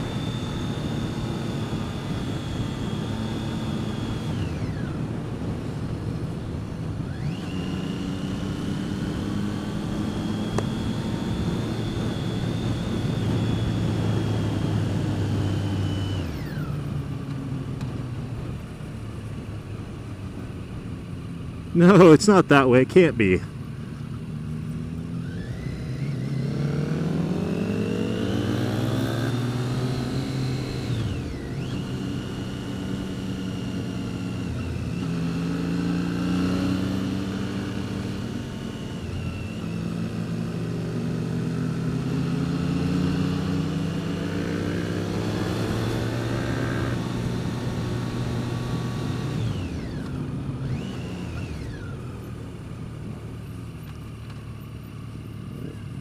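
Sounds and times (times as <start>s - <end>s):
motorcycle engine revving: 0.0s - 18.7s, 23.9s - 56.0s.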